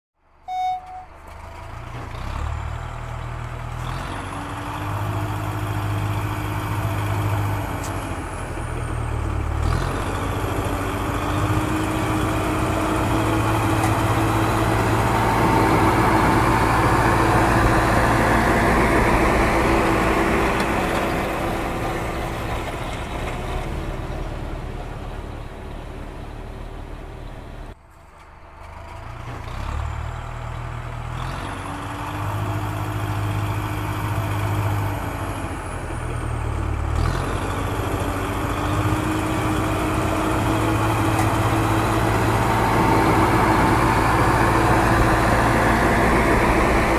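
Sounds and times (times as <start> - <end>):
tractor engine running: 0.2 - 46.9.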